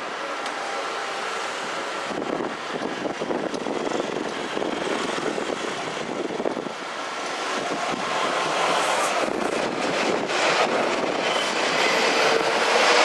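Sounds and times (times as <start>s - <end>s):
electric train approaching on rails: 0.0s - 13.0s.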